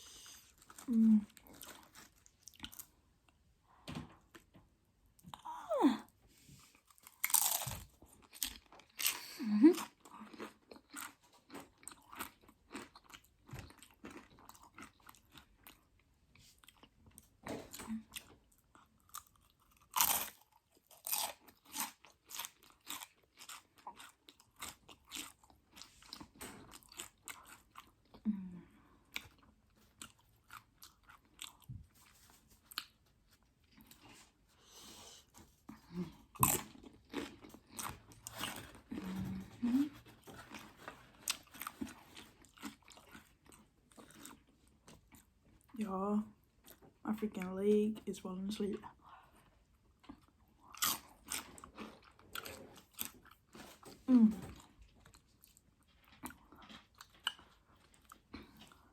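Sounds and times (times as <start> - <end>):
chewing crunchy tortilla chips: 0.0 - 3.4, 6.4 - 47.5, 48.7 - 58.9.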